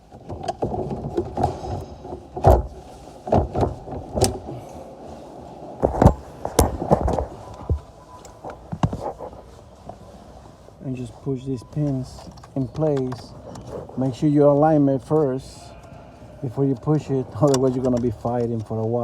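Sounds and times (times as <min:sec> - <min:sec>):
rustling handling: 0:00.0 - 0:19.0.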